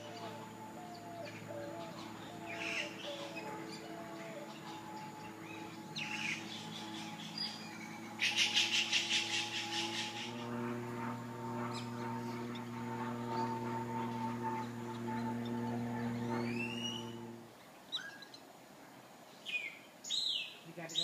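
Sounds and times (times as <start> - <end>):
bird chattering call: 0.0 - 17.4
low steady hum: 0.0 - 17.8
bird chirps: 0.0 - 18.4.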